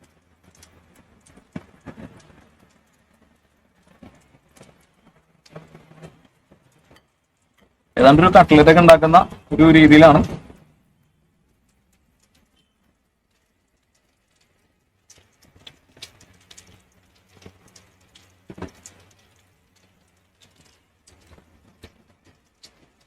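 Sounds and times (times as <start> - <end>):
food frying in hot oil: 0.0 - 23.0.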